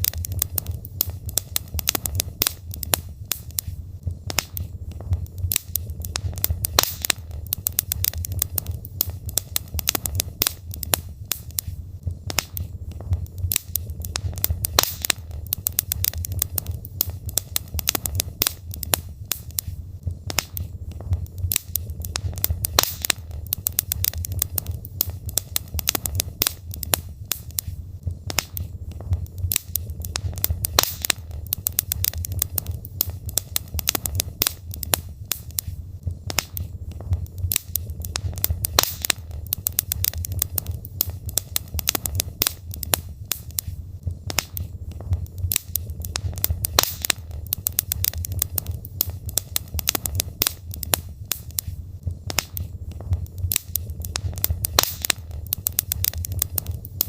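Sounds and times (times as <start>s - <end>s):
fire crackling and popping: 0.0s - 57.0s
low rumble of fire: 0.0s - 57.0s.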